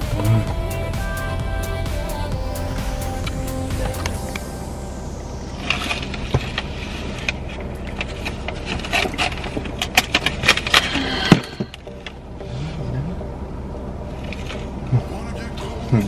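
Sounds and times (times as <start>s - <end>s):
low car cabin hum: 0.0s - 16.0s.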